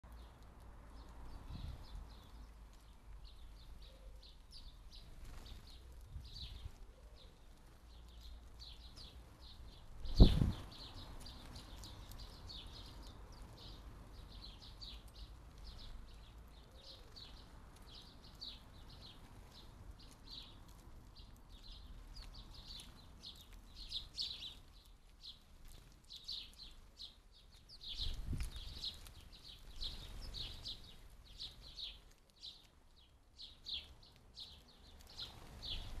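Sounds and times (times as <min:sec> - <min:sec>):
sparrows chirping: 0:00.0 - 0:36.0.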